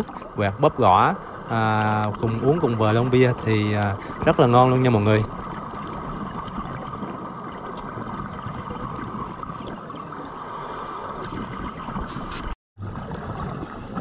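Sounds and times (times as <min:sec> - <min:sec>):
bubbling: 0:00.0 - 0:14.0
underwater water rush: 0:00.0 - 0:14.0.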